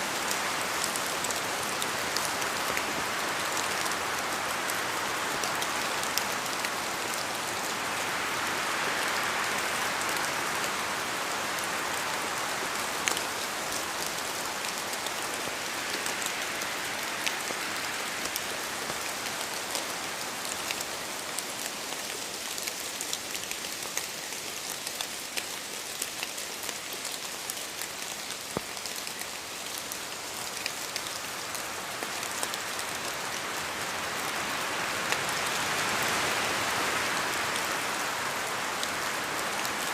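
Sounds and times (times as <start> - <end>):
steady rain in forest: 0.0 - 39.9
wind: 0.0 - 39.9.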